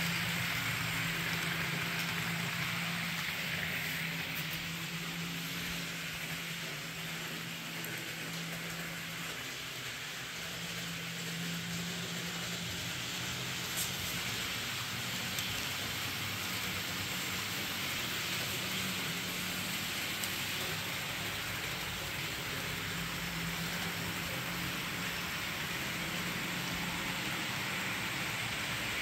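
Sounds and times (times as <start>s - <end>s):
model train rolling on track: 0.0s - 29.0s.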